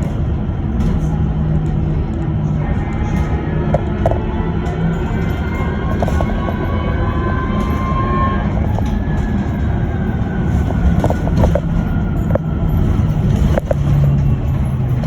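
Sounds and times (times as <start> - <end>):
bus road rumble: 0.0 - 15.0.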